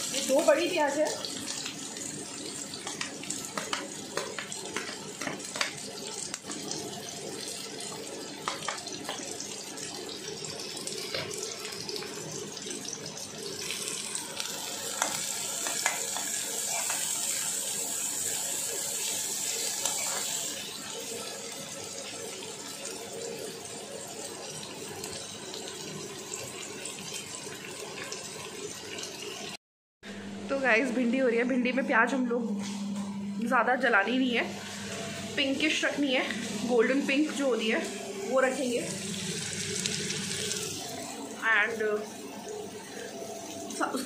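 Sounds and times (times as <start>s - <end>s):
onions sizzling in hot oil: 0.0s - 29.6s, 34.6s - 44.0s.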